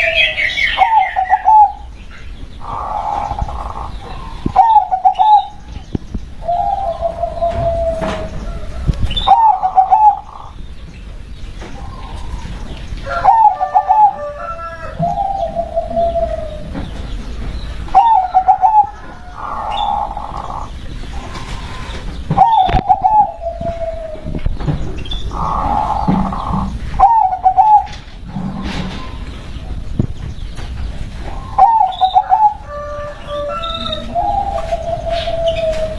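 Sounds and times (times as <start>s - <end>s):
dove cooing: 0.0s - 2.0s, 2.6s - 5.6s, 6.4s - 10.6s, 11.7s - 17.2s, 17.9s - 29.8s, 31.2s - 35.9s.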